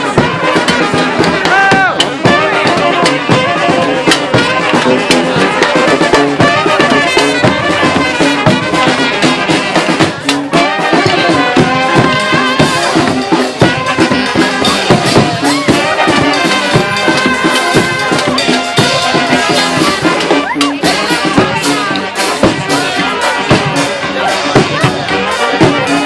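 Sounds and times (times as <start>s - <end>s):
brass band playing: 0.0s - 26.0s
percussion beat: 0.0s - 26.0s.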